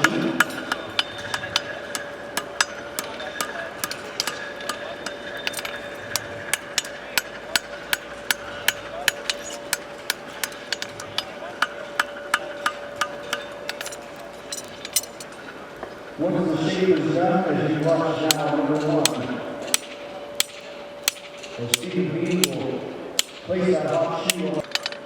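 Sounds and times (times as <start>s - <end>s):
hammers striking horseshoes on anvils: 0.0s - 15.3s, 18.2s - 25.0s.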